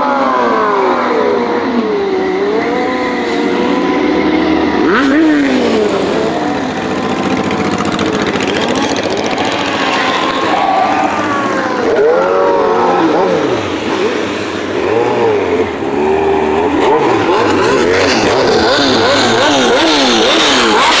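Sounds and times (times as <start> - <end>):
motorcycles revving: 0.0 - 21.0.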